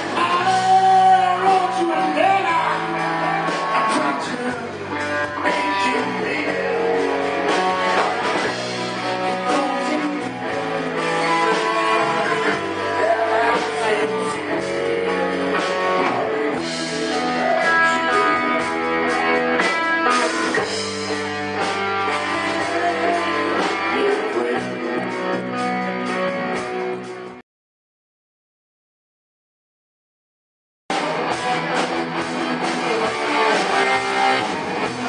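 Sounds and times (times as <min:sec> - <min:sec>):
bass guitar: 0:00.0 - 0:27.4, 0:30.9 - 0:35.0
drum kit: 0:00.0 - 0:27.4, 0:30.9 - 0:35.0
electric guitars: 0:00.0 - 0:27.4, 0:30.9 - 0:35.0.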